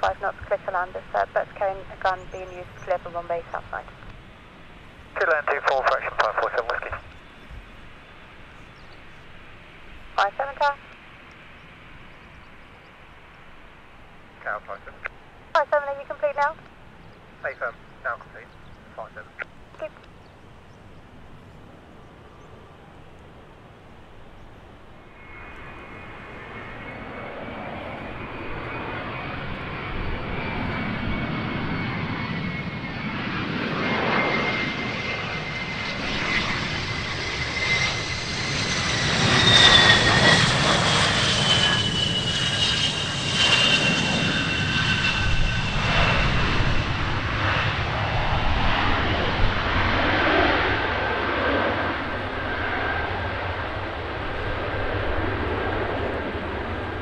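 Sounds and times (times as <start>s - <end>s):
high turbine whine: 0.0s - 57.0s
jet engines roaring: 0.0s - 57.0s.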